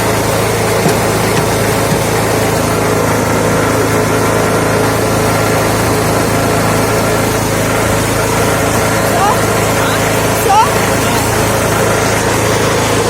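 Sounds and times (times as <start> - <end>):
petrol engine running steadily: 0.0 - 13.0.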